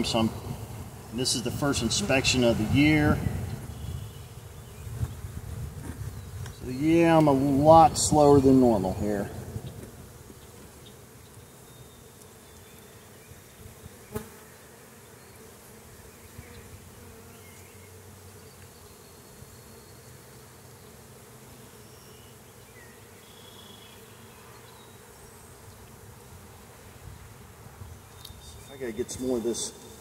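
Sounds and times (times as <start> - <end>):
honeybee colony buzzing: 0.0 - 30.0.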